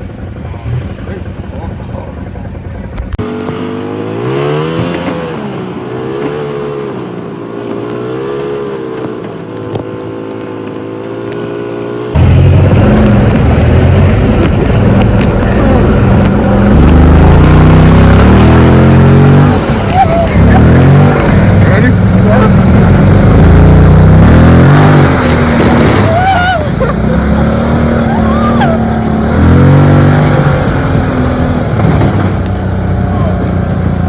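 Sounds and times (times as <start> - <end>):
buggy engine revving: 0.0 - 34.0.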